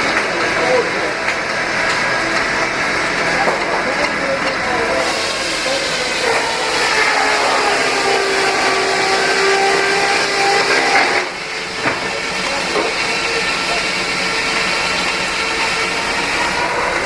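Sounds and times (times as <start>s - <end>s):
steam engine running: 0.0s - 17.0s.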